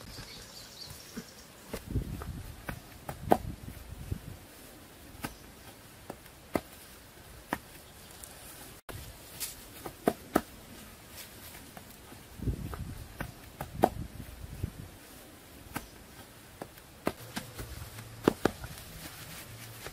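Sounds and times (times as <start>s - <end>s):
hands patting turf into soil: 1.7s - 19.9s.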